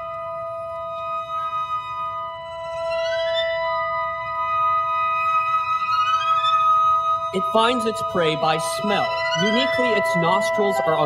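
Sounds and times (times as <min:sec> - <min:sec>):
held woodwind notes: 0:00.0 - 0:11.0
violin rising glides: 0:00.0 - 0:11.0.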